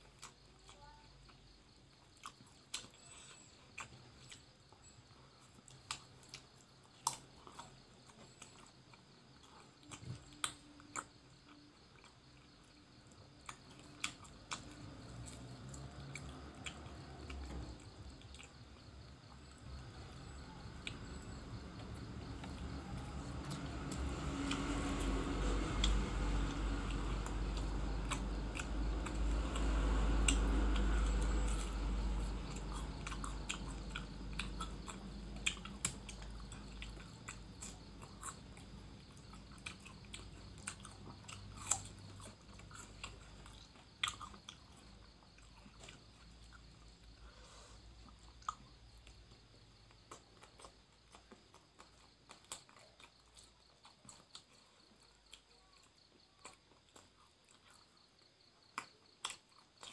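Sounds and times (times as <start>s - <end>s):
person chewing: 0.0s - 19.6s, 20.2s - 49.2s, 49.8s - 58.0s, 58.6s - 59.9s.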